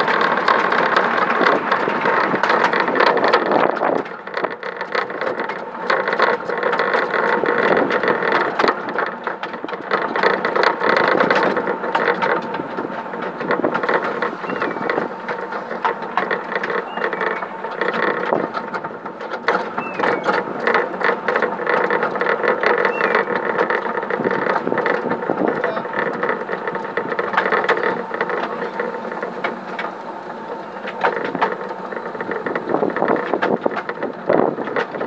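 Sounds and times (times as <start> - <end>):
high wheel squeaks: 0.0 - 35.0
wheels clattering on rails: 0.0 - 35.0.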